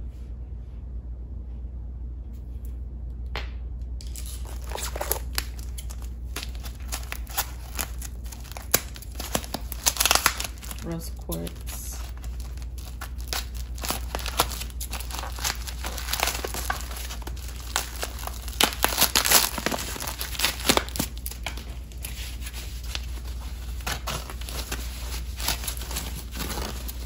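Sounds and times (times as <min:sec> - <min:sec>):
foam and plastic crinkling: 0:04.0 - 0:27.0.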